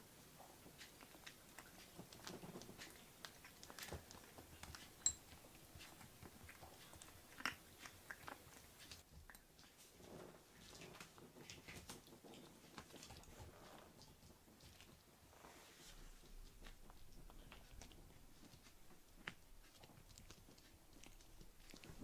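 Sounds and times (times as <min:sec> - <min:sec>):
kitten crunching dry food: 0:00.4 - 0:15.1, 0:15.9 - 0:22.0.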